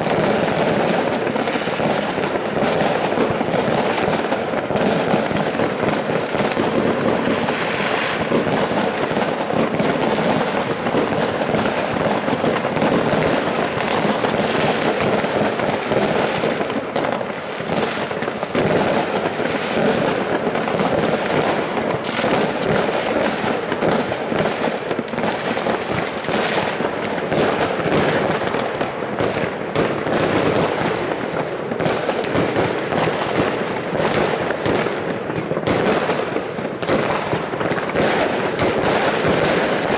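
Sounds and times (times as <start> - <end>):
distant fireworks bangs and crackles: 0.0 - 39.9.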